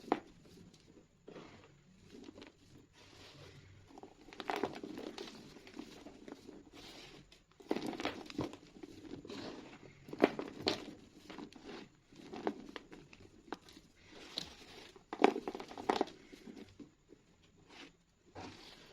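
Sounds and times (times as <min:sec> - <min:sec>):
chalk crunching and crumbling: 0:00.0 - 0:18.9.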